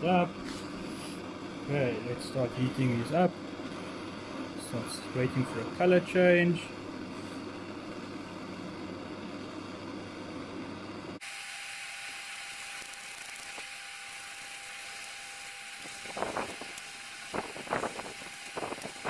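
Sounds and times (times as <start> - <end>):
blowtorch flame hissing: 0.1 - 8.9, 11.2 - 19.0.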